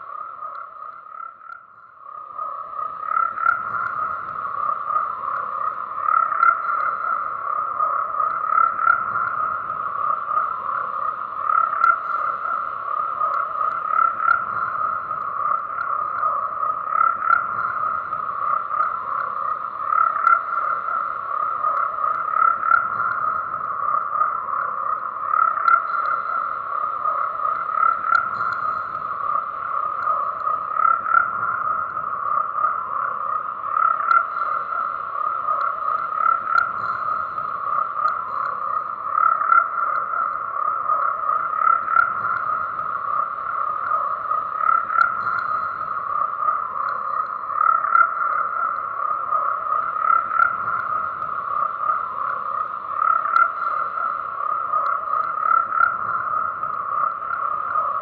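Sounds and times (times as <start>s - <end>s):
chorus of frogs croaking: 0.0s - 58.0s.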